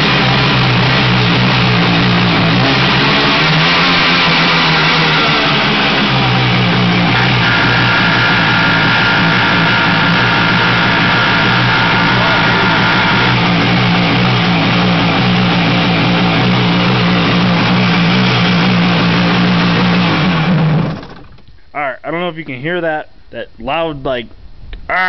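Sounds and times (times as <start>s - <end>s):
jet ski engine running: 0.0s - 21.4s.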